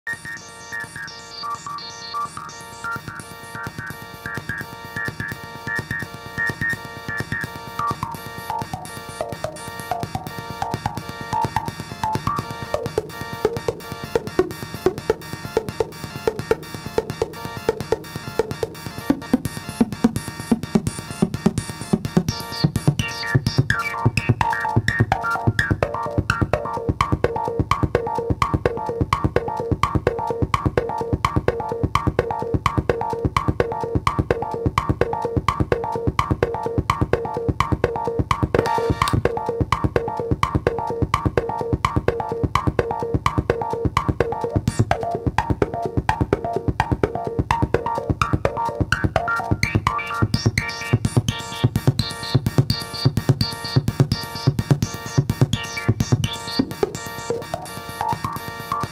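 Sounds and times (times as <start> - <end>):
synthesizer percussive hits: 2.4 - 58.9.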